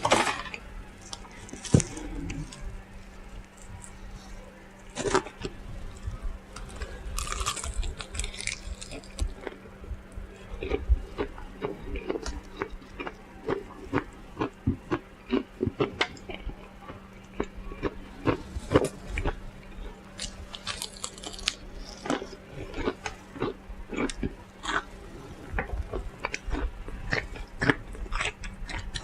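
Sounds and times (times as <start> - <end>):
chewing and crunching food: 0.0 - 29.0
faint steady hum: 0.0 - 29.0.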